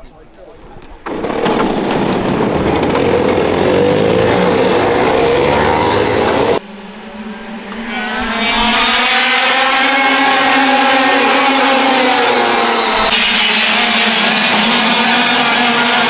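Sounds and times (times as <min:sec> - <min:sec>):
racing kart engines: 0:00.4 - 0:16.0.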